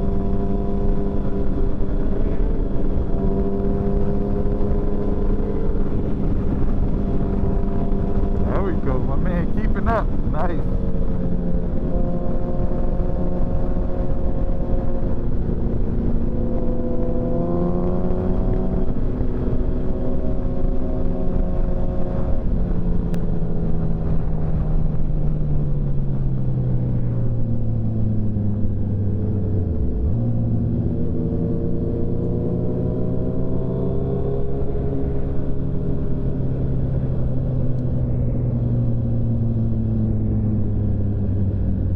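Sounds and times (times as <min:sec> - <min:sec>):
wind noise: 0:00.0 - 0:41.9.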